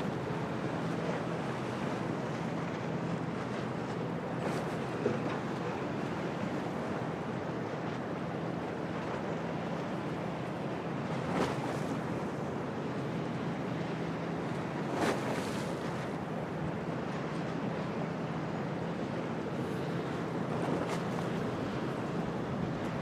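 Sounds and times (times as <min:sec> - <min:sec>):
waves: 0:00.0 - 0:23.0.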